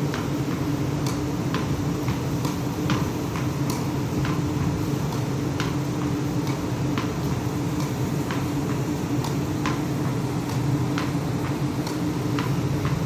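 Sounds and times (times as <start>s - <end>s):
machinery droning hum: 0.0s - 13.0s
ball hitting steel wall: 0.1s - 13.0s
racket striking tennis ball: 0.1s - 13.0s
ball bouncing on deck: 1.0s - 4.4s, 5.1s - 13.0s.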